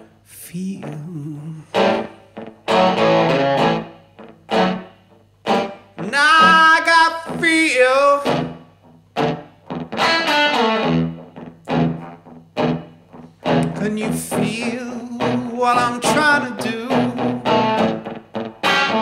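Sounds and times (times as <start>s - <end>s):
electric guitar phrases: 0.0s - 19.0s.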